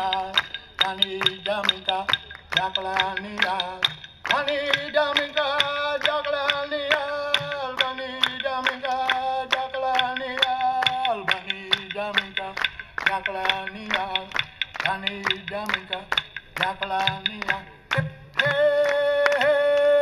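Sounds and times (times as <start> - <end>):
person chanting: 0.0 - 20.0
sharp rhythmic clicks: 0.0 - 20.0.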